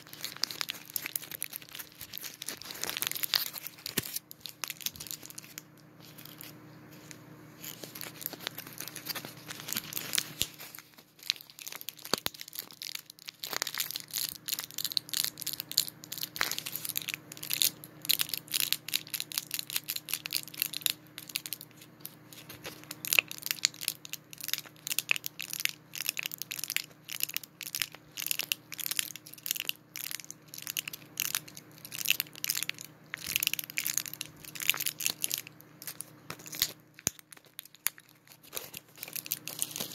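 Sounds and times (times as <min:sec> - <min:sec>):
wrappers crinkling: 0:00.0 - 0:39.9.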